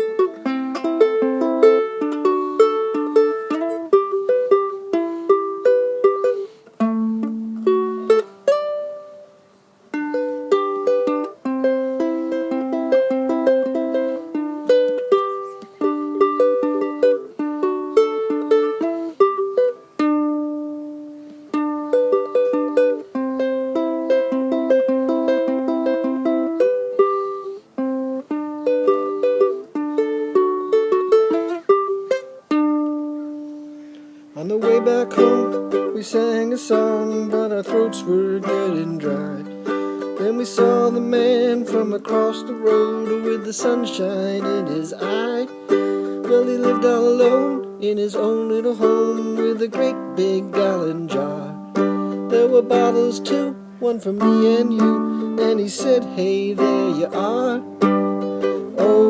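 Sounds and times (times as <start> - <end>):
plucked string instrument: 0.0 - 59.0.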